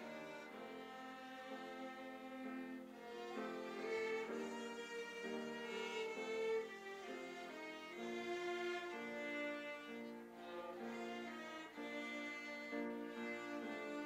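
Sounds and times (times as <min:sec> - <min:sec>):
violin slow melody: 0:00.0 - 0:14.0.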